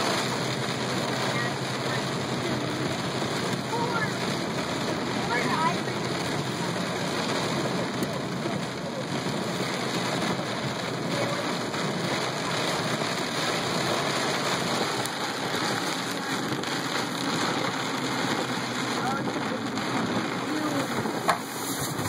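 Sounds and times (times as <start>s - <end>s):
heavy rain on car roof: 0.0s - 22.0s.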